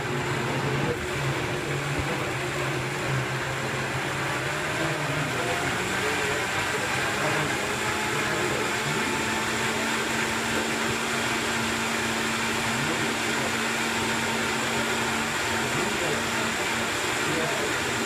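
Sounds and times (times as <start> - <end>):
blender motor whirring: 0.0 - 18.0.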